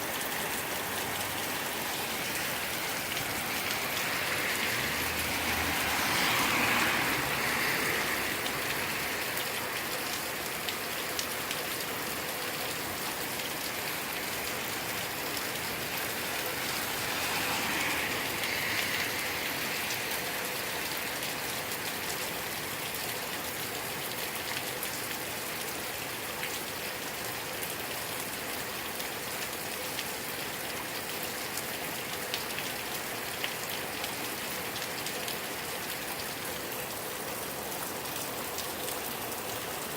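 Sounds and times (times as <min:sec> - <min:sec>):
raindrops ticking on hard surface: 0:00.0 - 0:39.9
steady rain: 0:00.0 - 0:39.9.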